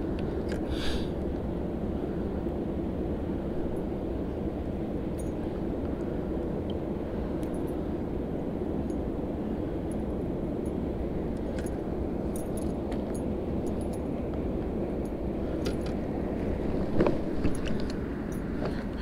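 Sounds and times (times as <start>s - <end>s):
steady rushing background: 0.0s - 19.0s.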